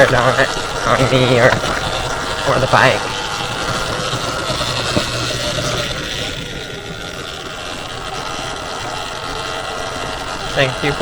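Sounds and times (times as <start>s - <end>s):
dirt bike riding noise: 0.0s - 11.0s
faint electric motor hum: 0.0s - 11.0s.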